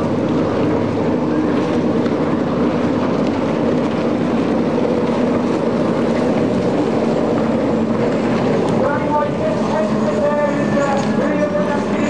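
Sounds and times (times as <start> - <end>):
jet ski engines running: 0.0 - 12.0.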